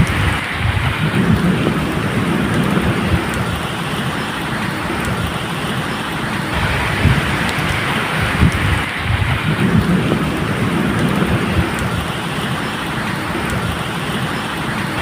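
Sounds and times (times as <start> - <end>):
low rumble of thunder: 0.0 - 5.7, 6.5 - 14.2
rain falling: 0.0 - 15.0.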